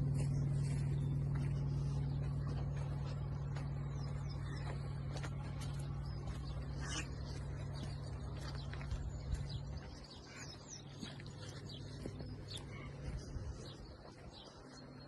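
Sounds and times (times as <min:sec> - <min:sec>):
low steady rumble: 0:00.0 - 0:15.0
small birds chirping: 0:00.0 - 0:15.0.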